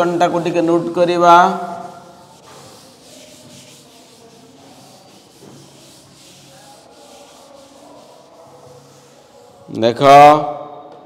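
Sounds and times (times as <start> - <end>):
duster rubbing a chalkboard: 0.0 - 9.9.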